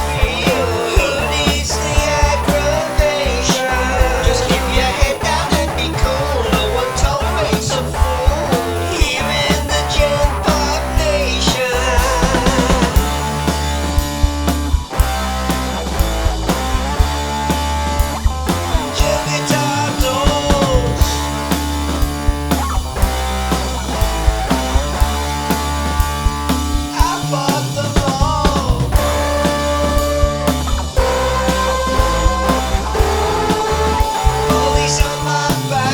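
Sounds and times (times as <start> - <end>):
rock music: 0.0 - 35.9.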